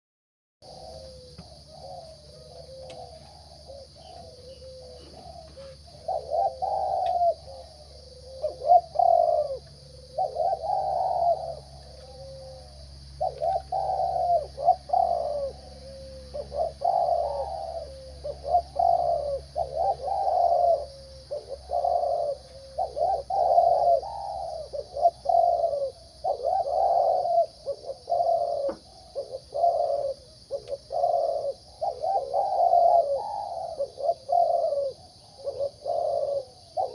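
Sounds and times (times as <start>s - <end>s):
dove cooing in trilled phrases: 0.6s - 36.9s.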